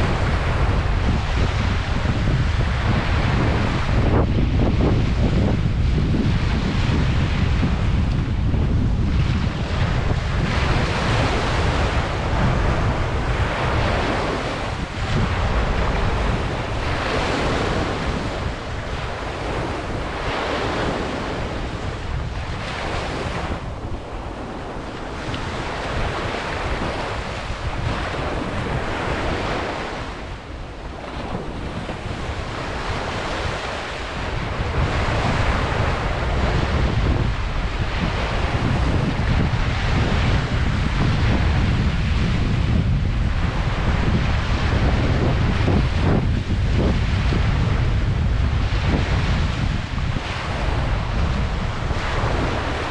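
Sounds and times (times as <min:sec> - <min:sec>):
ocean waves breaking: 0:00.0 - 0:52.9
wind buffeting microphone: 0:00.0 - 0:52.9.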